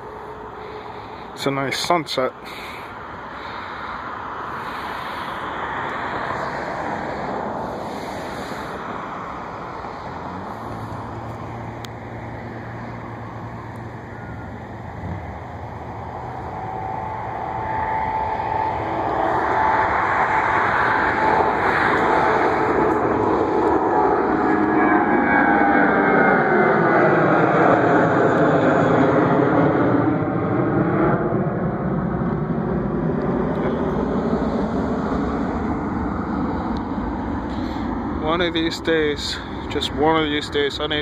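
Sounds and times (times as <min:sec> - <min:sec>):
jet airliner rumble: 0:00.0 - 0:41.0
thin jet whine: 0:00.0 - 0:41.0.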